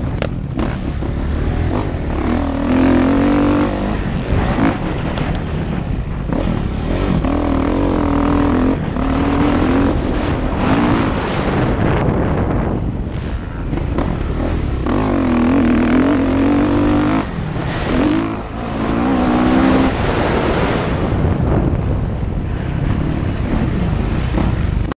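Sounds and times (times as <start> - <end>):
motocross bike engine revving: 0.0 - 12.1, 13.1 - 21.2
wind on microphone: 0.0 - 25.0.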